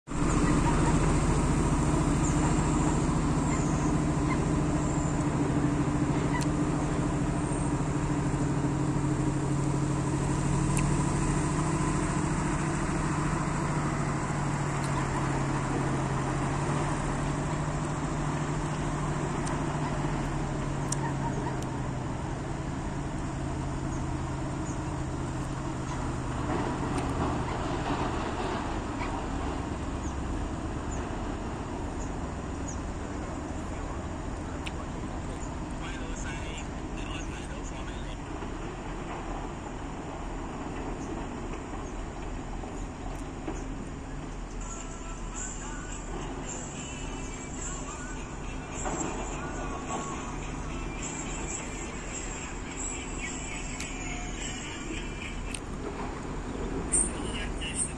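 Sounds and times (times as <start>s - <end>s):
heavy machinery diesel engine running: 0.0s - 57.9s.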